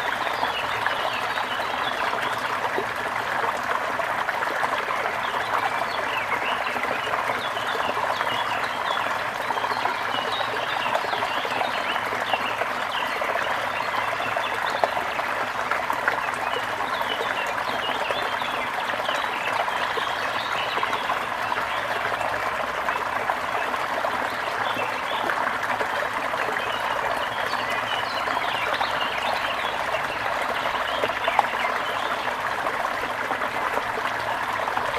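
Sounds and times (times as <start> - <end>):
small river flowing: 0.0 - 34.9.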